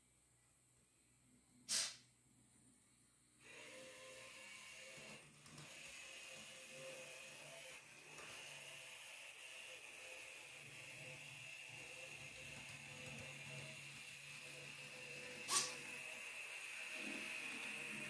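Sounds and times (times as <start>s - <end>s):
model train motor whirring: 3.4s - 18.0s.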